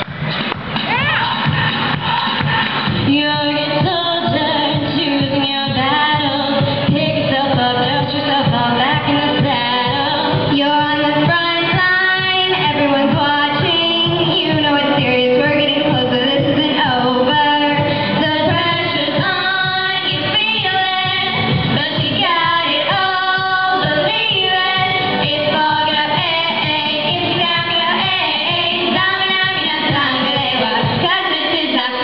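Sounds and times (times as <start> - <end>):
amplified backing music: 0.0 - 32.0
girls' choir singing pop song: 0.0 - 32.0
solo voices singing: 0.8 - 32.0.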